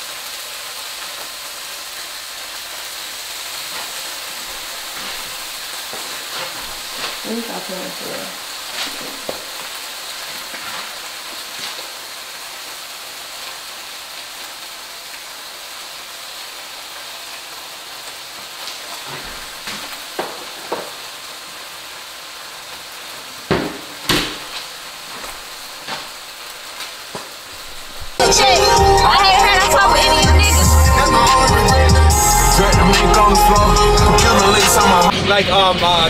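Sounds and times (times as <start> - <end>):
food sizzling in a frying pan: 0.0 - 30.7.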